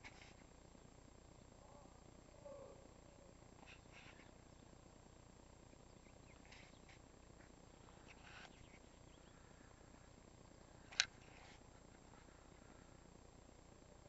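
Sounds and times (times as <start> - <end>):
faint bird chirps: 0.2 - 4.8, 5.6 - 13.1.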